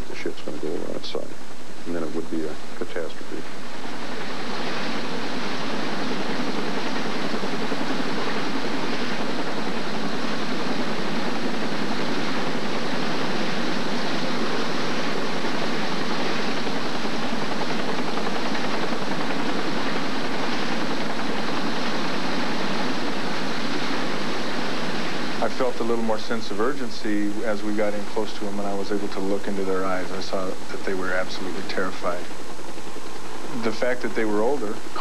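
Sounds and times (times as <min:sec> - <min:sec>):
helicopter hovering: 0:00.0 - 0:35.0.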